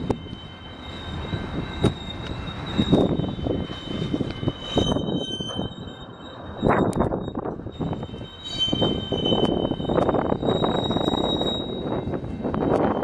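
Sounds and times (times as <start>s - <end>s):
high-pitched wheel squeal: 0.0s - 13.0s
low train rumble: 0.0s - 13.0s
train cars clanking: 0.0s - 13.0s.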